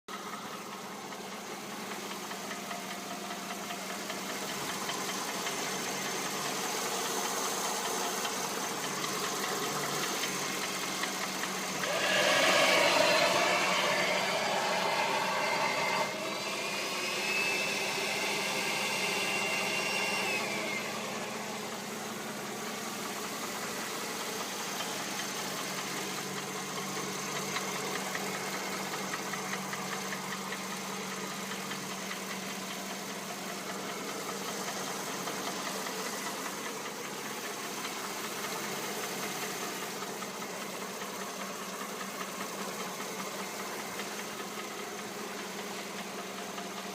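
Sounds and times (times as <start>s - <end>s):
car engine knocking: 0.1s - 14.7s, 17.7s - 46.9s.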